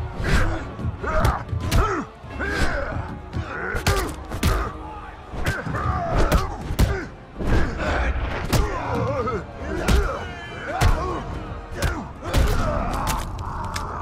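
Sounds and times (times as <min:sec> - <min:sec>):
film music: 0:00.0 - 0:14.0.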